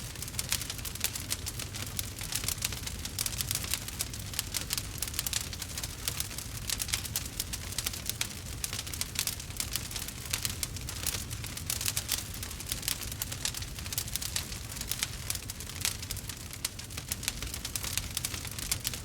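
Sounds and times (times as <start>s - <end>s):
crackles and small pops: 0.0s - 19.0s
wood fire burning: 0.0s - 19.0s.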